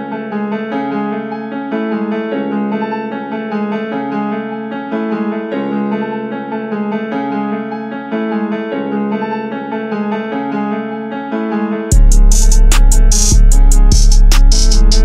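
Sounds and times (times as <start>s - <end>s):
keyboard melody over low notes: 0.0s - 15.0s.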